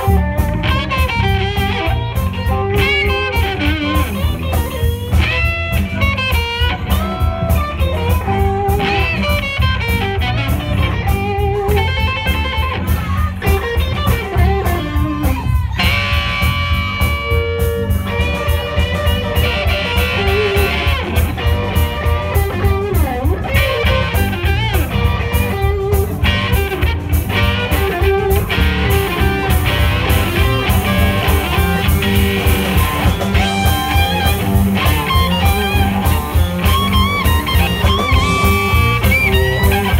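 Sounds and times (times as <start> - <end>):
drum kit: 0.0 - 39.9
electric guitars: 0.0 - 39.9
lead guitar bending notes: 0.0 - 39.9.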